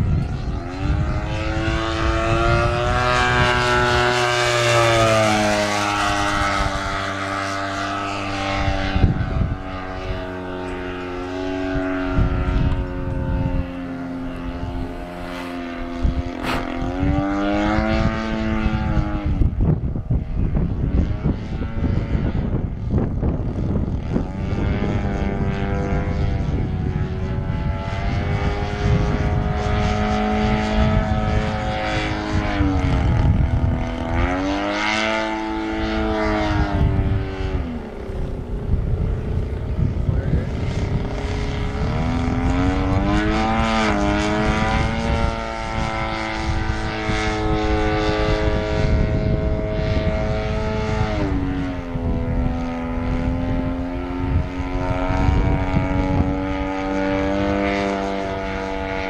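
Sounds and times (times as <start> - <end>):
model plane engine and propeller: 0.0 - 59.0.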